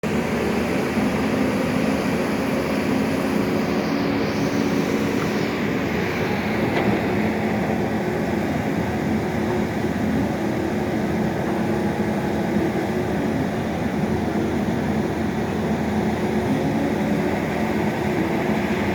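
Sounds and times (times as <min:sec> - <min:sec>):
heavy machinery running: 0:00.0 - 0:18.9.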